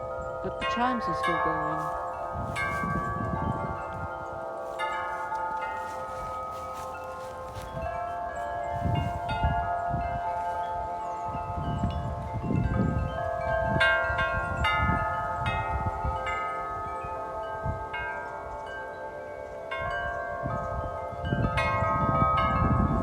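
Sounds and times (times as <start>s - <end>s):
wind chimes ringing: 0.0s - 23.0s
wind rumble on microphone: 0.0s - 23.0s.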